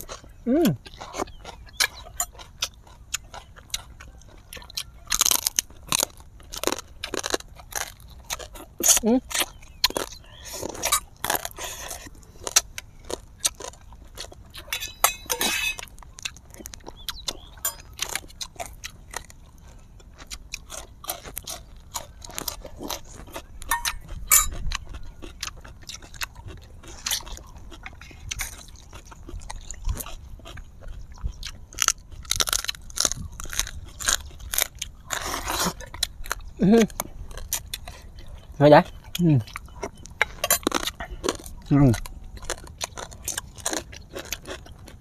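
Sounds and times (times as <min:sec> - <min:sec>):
crunching crispy food: 0:00.0 - 0:45.0.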